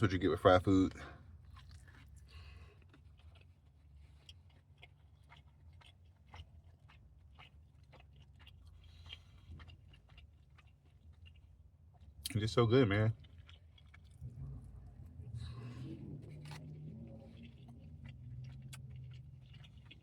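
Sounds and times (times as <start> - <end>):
chewing with mouth clicks: 0.0 - 20.0
low steady hum: 0.0 - 20.0.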